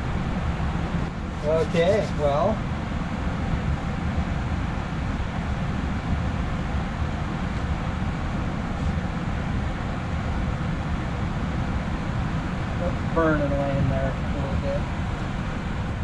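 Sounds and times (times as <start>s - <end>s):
furnace burner and fan rumbling: 0.0s - 16.0s.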